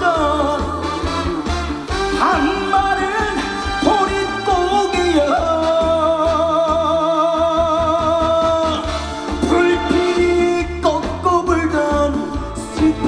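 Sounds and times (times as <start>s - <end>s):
backing band with bass and drums: 0.0s - 13.0s
man singing with vibrato: 0.0s - 13.0s.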